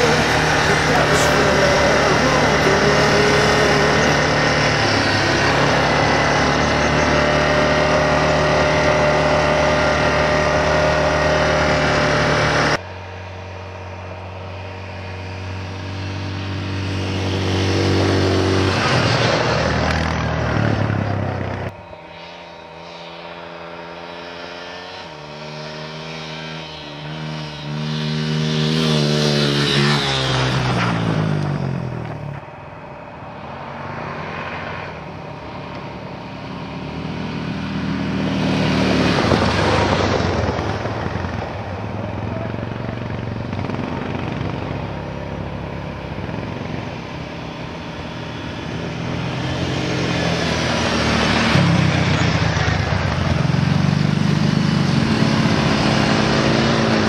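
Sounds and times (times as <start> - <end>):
atv engine running: 0.0 - 32.9, 35.1 - 57.0
atvs passing by: 0.0 - 57.0.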